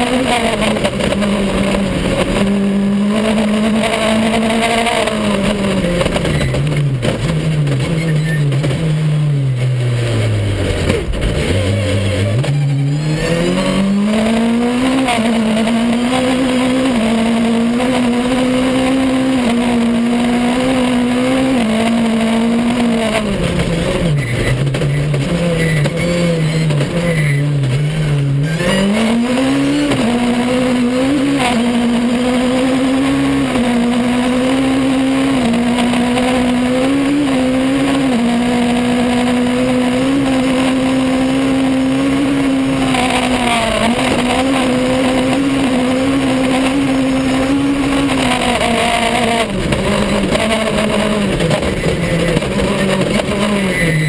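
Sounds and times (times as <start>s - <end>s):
rally car engine revving high: 0.0s - 54.0s.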